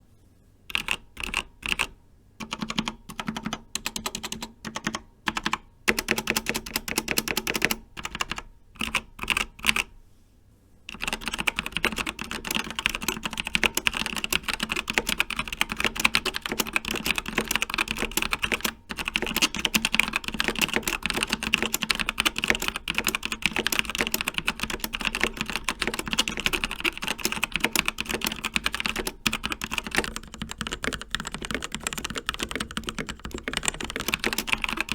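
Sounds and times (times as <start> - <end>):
typing on mechanical keyboard: 0.7 - 9.9, 10.9 - 34.9.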